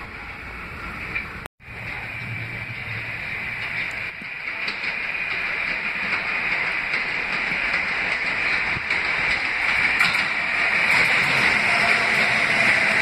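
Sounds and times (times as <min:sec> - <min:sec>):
subway train rail and wheel noise: 0:00.0 - 0:13.0.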